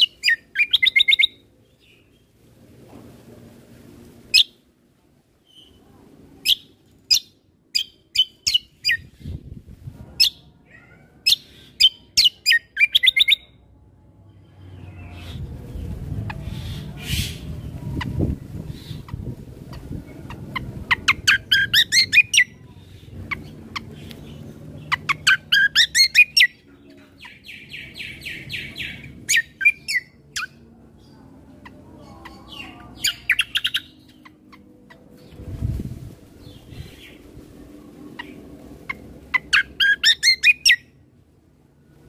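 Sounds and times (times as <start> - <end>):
low background rumble: 1.3 - 12.1, 13.4 - 42.0.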